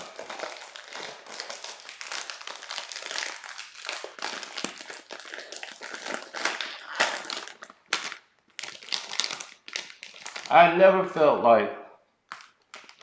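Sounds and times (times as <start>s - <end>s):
wrapper crinkling: 0.0s - 10.6s, 12.2s - 13.0s.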